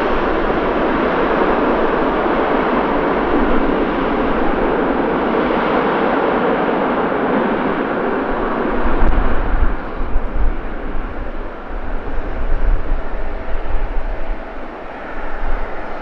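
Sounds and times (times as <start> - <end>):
jet engine rush: 0.0 - 16.0.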